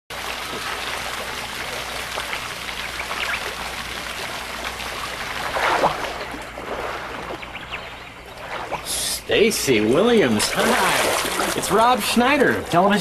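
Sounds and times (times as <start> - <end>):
water splashing and trickling: 0.1 - 13.0.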